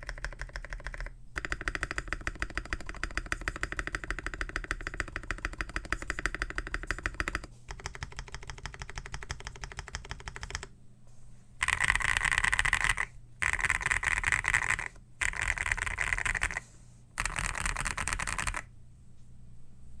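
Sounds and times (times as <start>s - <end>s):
fast mechanical keyboard typing: 0.0s - 10.7s, 11.6s - 18.7s.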